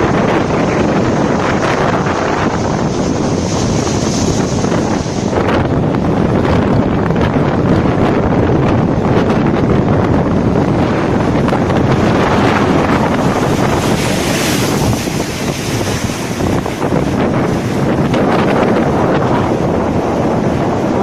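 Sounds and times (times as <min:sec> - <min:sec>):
sea waves breaking: 0:00.0 - 0:21.0
wind buffeting microphone: 0:00.0 - 0:21.0.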